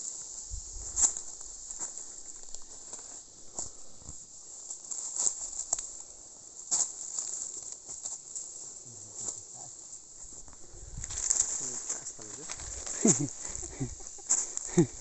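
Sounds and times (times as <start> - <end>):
footsteps crunching through dry leaves: 0.0 - 15.0
insects droning: 0.0 - 15.0.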